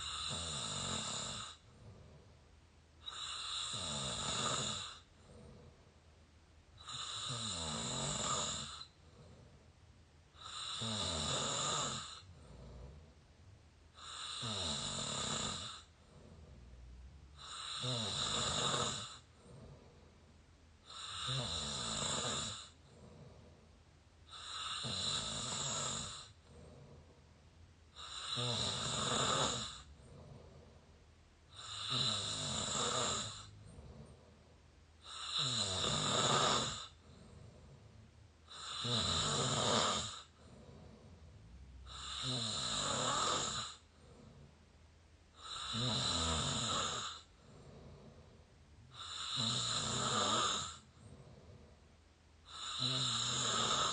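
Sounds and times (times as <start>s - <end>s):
person snoring: 0.0s - 2.2s, 3.0s - 5.8s, 6.8s - 9.5s, 10.4s - 13.1s, 13.9s - 16.6s, 17.3s - 20.0s, 20.8s - 23.5s, 24.3s - 27.1s, 27.9s - 30.8s, 31.5s - 34.4s, 35.0s - 44.5s, 45.4s - 51.8s, 52.5s - 53.9s
quiet breathing: 0.0s - 53.9s.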